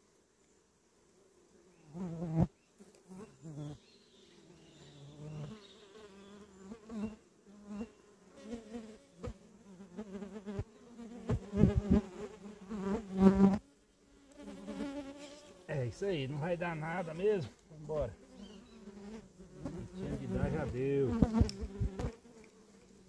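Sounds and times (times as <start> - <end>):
flying insects buzzing: 0.0 - 23.0.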